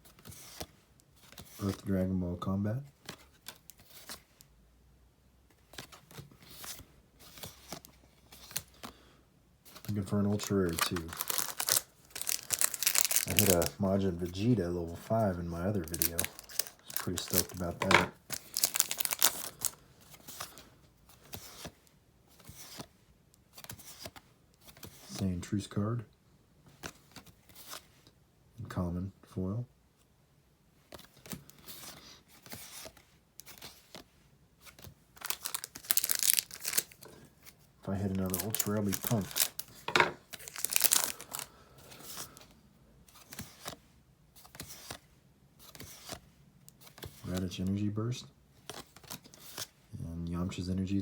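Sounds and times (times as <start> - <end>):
cards rustling: 0.1 - 1.9, 2.9 - 4.4, 5.5 - 25.6, 26.7 - 28.0, 30.8 - 43.8, 44.4 - 47.8, 48.6 - 49.8.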